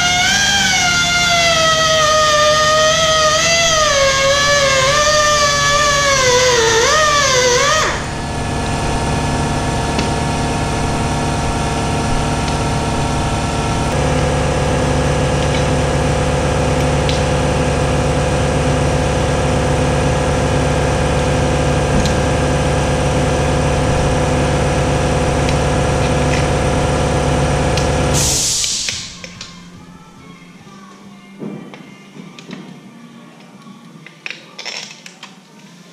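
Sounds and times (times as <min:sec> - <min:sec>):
machine humming: 0:00.0 - 0:30.5.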